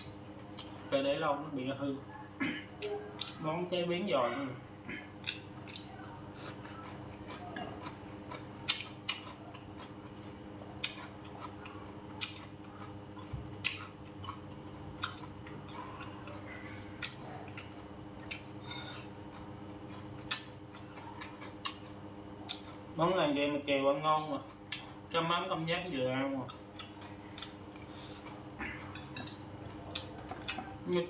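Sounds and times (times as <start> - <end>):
background hum: 0.0 - 31.0.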